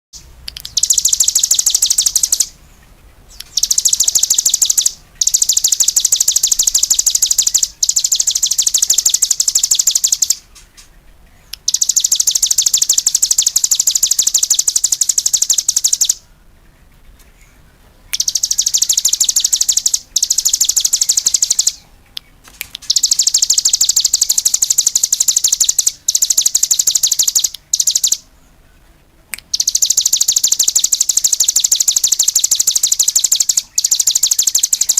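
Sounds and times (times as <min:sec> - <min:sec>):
songbird twittering: 0:00.2 - 0:34.9.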